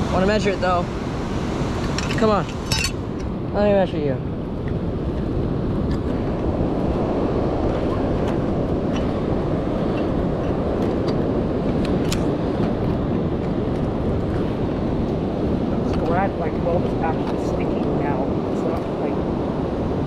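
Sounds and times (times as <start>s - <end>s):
ocean surf: 0.0s - 20.0s
wind on microphone: 0.0s - 20.0s.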